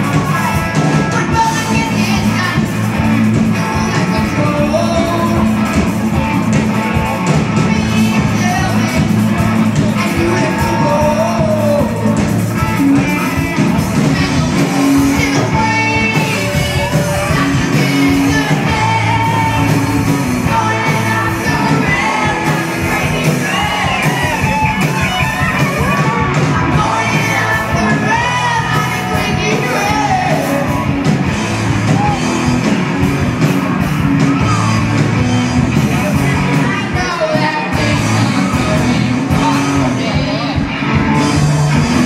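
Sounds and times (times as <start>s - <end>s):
person singing: 0.0s - 31.3s, 34.0s - 42.0s
rock band playing: 0.0s - 42.0s.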